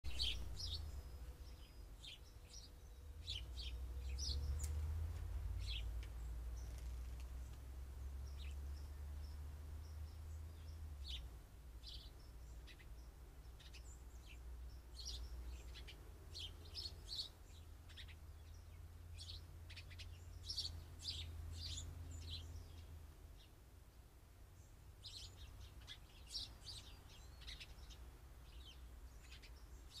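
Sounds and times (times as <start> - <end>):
faint low rumble: 0.0 - 30.0
songbirds chirping: 0.0 - 30.0.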